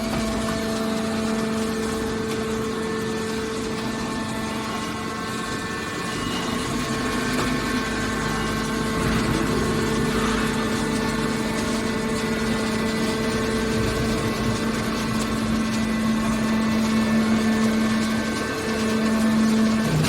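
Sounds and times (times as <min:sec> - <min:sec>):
hydraulic baler motor humming: 0:00.0 - 0:20.0.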